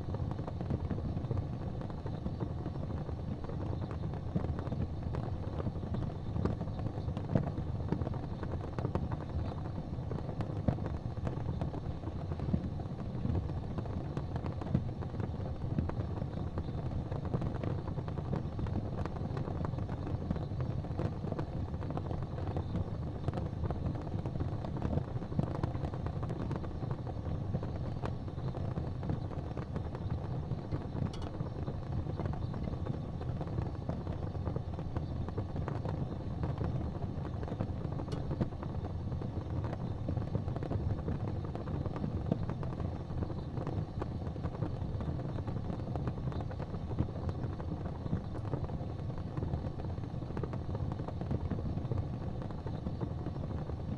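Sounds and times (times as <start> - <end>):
fire crackles and pops: 0.0 - 53.9
low rumble of flames: 0.0 - 53.9.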